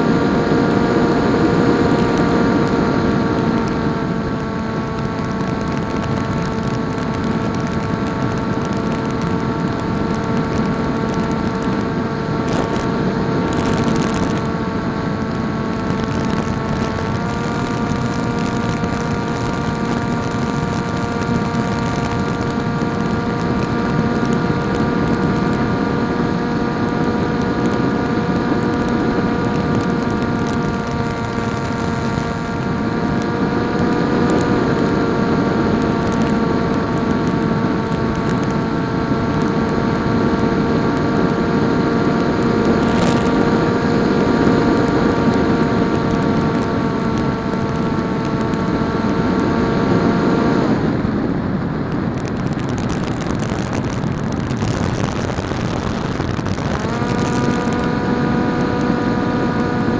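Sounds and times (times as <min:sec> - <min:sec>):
electric motor propeller whine: 0:00.0 - 0:59.9.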